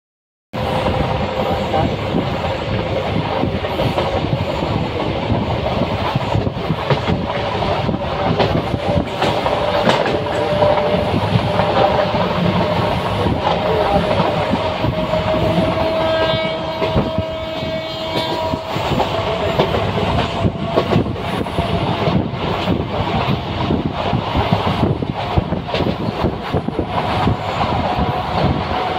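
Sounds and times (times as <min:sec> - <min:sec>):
train wheels rumbling: 0:00.5 - 0:28.9
clickety-clack over rail joints: 0:00.6 - 0:28.9.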